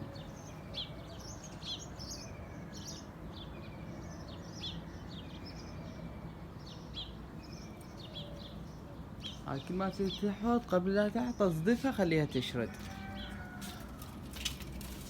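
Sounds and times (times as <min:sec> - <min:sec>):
low outdoor background noise: 0:00.0 - 0:15.0
small birds chirping: 0:00.0 - 0:15.0.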